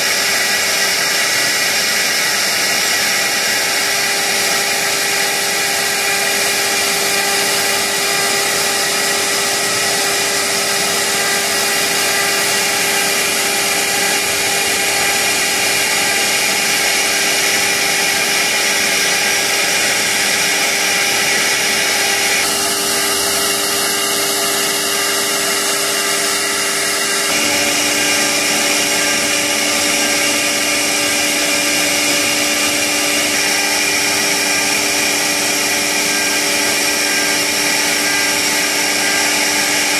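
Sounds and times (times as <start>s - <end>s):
cnc router whine: 0.0s - 39.9s
cutting noise: 0.0s - 39.9s.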